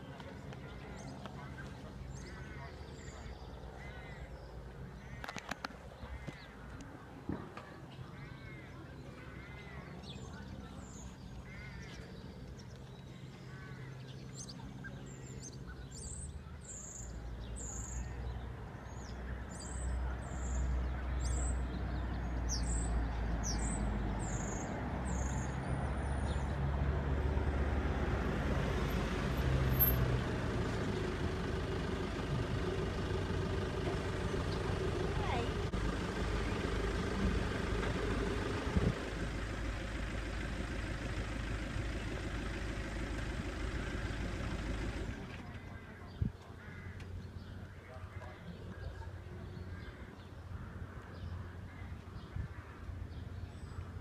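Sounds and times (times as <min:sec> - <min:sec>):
birds calling and chirping: 0:00.0 - 0:27.6, 0:28.6 - 0:54.0
low engine rumble: 0:00.0 - 0:54.0.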